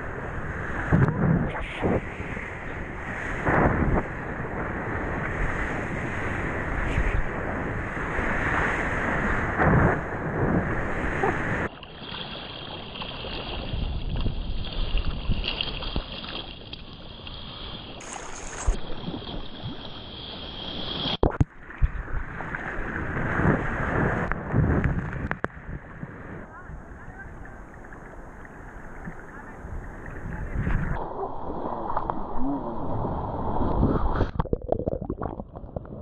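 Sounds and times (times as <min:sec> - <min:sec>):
wind on microphone: 0:00.0 - 0:11.7, 0:13.2 - 0:16.1, 0:18.0 - 0:36.0
sea water splashing: 0:00.0 - 0:36.0.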